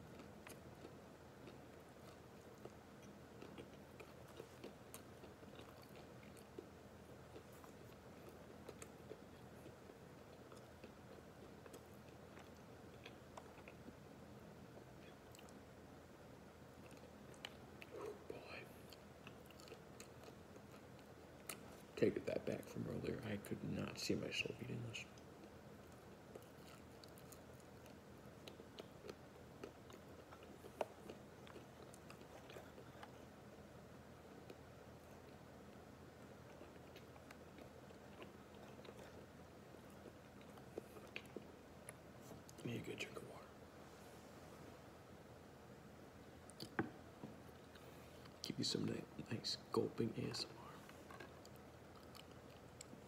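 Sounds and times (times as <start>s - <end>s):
chewing dry noodles: 0.0s - 42.7s, 50.3s - 53.0s
low steady hum: 0.0s - 53.0s.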